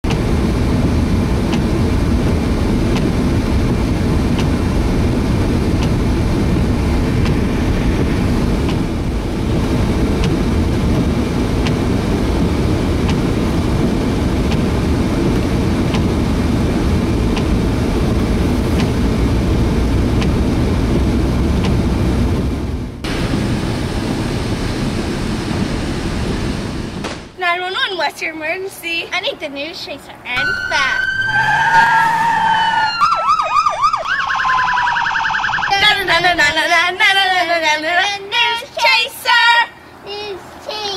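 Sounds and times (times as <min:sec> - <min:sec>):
car engine and tyres rumbling: 0:00.0 - 0:27.8, 0:29.3 - 0:40.9.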